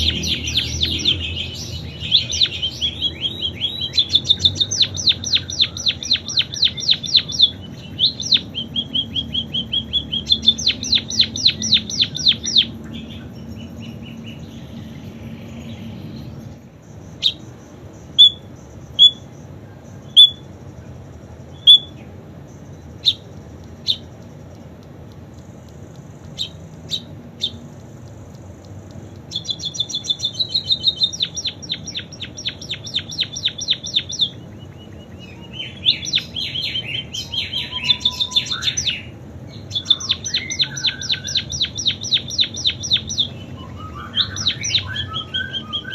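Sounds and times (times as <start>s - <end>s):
songbird trilling: 0.0s - 25.4s, 26.2s - 27.9s, 28.9s - 45.9s
sharp bird chirps: 0.0s - 25.5s, 26.2s - 45.9s.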